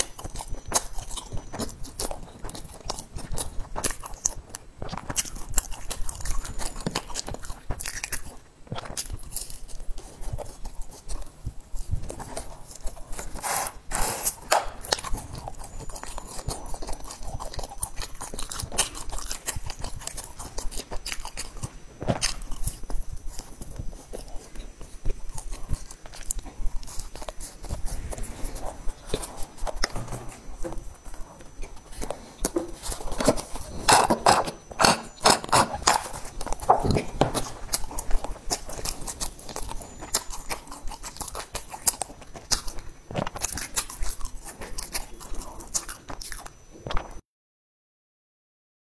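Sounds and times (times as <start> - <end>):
close chewing mouth sounds: 0.0 - 47.2.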